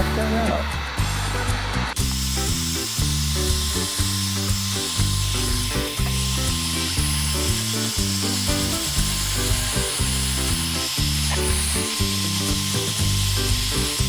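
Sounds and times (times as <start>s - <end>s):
background music with bass line: 0.0s - 14.0s.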